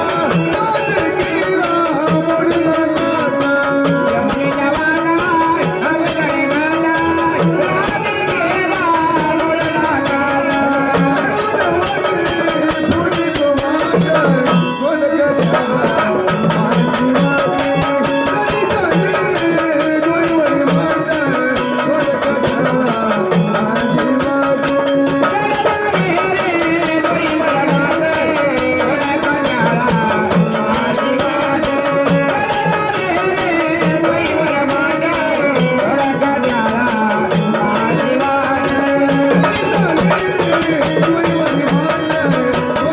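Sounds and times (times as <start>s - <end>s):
hand drum beat: 0.0s - 14.8s, 15.4s - 42.9s.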